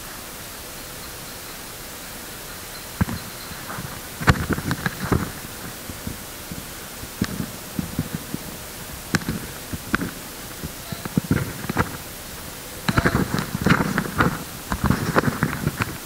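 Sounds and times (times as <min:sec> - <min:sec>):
background hiss: 0:00.0 - 0:16.0
sharp clicks: 0:02.8 - 0:16.0.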